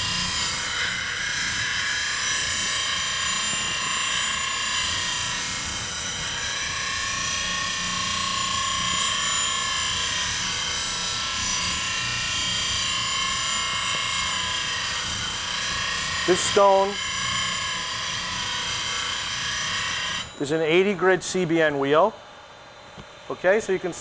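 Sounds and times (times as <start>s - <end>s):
bench grinder grinding metal: 0.0s - 21.0s.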